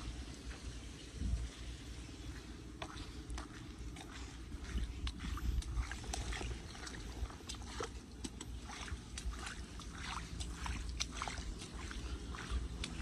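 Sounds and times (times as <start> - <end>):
floodwater sloshing and splashing: 1.4 - 13.0.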